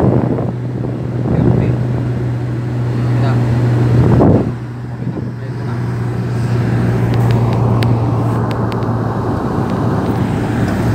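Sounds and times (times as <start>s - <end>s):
car engine and road drone: 0.0s - 10.9s.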